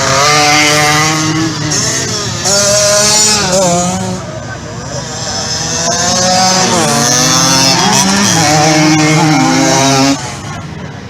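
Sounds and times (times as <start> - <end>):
small motorcycle engines revving: 0.0 - 11.0.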